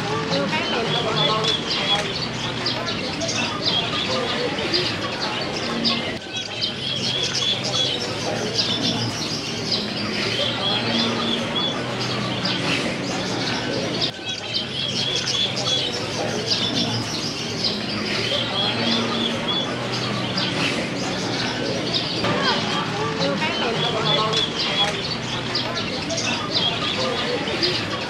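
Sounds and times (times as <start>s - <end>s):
birds chirping and tweeting: 0.0s - 28.0s
birds cooing: 0.0s - 28.0s.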